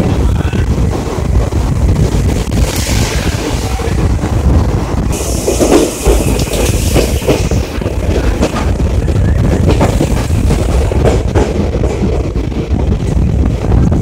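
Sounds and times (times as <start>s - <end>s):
wind buffeting microphone: 0.0s - 14.0s
train wheels clattering over rails: 0.7s - 14.0s.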